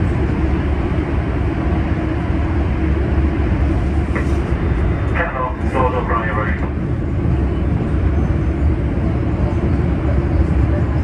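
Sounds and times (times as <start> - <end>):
subway train rumbling on rails: 0.0 - 11.0.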